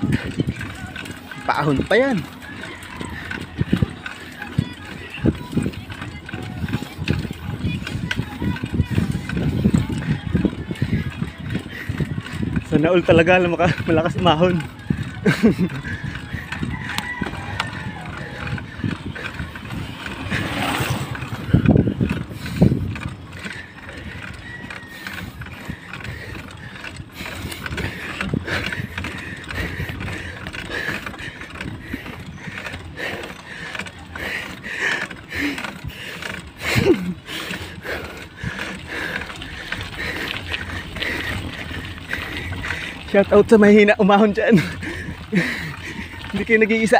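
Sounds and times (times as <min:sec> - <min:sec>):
mountain bike rattling and clicking: 0:00.0 - 0:46.9
tyres on gravel: 0:00.0 - 0:46.9.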